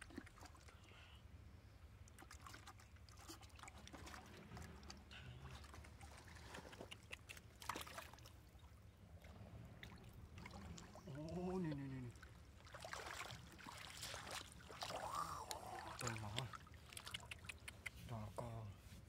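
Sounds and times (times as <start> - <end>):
small splashes and clicks: 0.0 - 0.9, 2.0 - 18.1
shallow water sloshing and trickling: 0.0 - 18.5.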